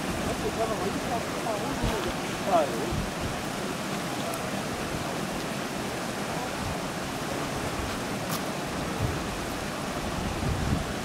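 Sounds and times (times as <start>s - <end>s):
shallow creek water running: 0.0s - 11.0s.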